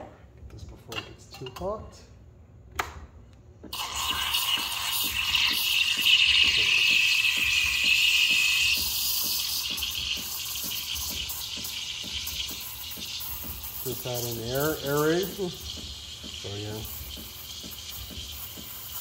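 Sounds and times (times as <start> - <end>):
steam wand hissing: 3.8 - 19.0.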